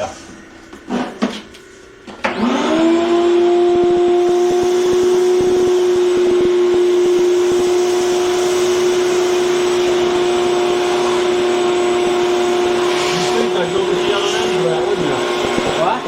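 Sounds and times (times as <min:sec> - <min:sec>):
vacuum cleaner humming: 0:00.0 - 0:16.0.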